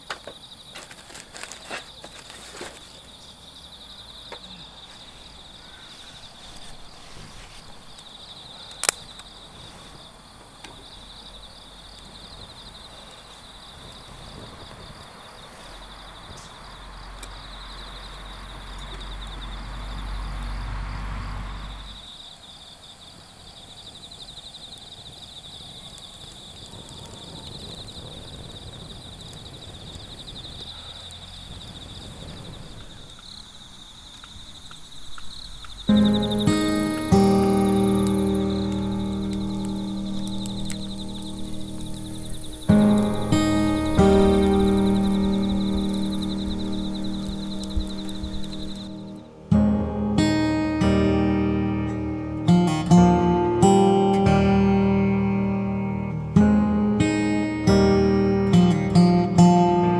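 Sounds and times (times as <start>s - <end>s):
wood fire crackling: 0.0s - 20.5s, 24.4s - 59.9s
night insects trilling: 0.0s - 59.9s.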